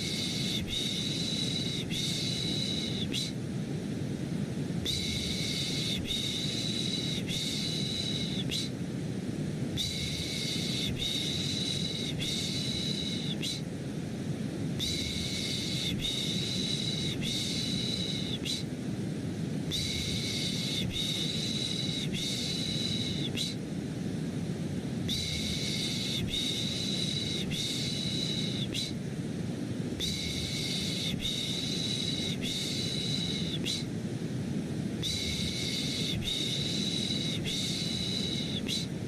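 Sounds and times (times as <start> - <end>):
deep white noise hiss: 0.0 - 39.0.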